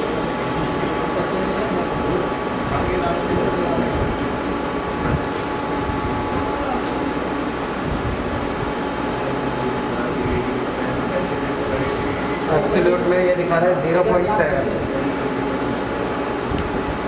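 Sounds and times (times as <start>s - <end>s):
faint steady whine: 0.0s - 17.0s
lathe machine hum and hiss: 0.0s - 17.0s.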